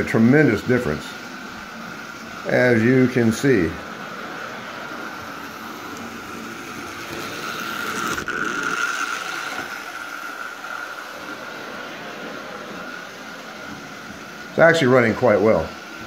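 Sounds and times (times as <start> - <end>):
electric motor and gears whining: 0.0 - 16.0.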